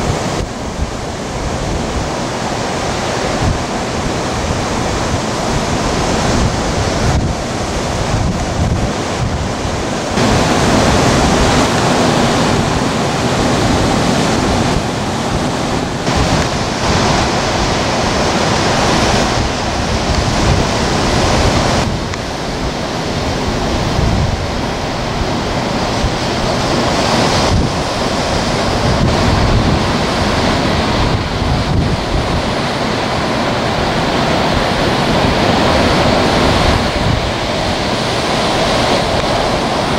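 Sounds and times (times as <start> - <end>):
surf breaking: 0.0 - 39.9
wind buffeting microphone: 0.0 - 39.9.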